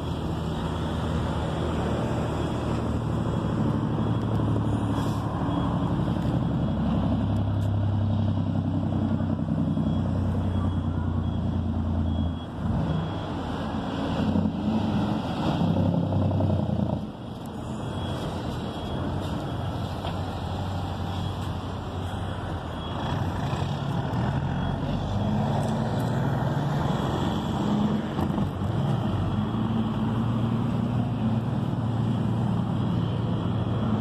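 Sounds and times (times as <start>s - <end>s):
diesel truck engine humming: 0.0s - 34.0s
road traffic passing: 0.0s - 34.0s.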